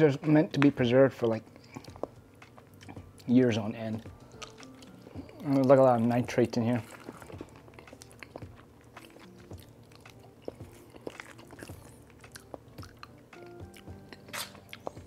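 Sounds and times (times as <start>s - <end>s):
quiet lo-fi music: 0.0s - 15.0s
person chewing: 1.5s - 3.3s, 4.0s - 15.0s.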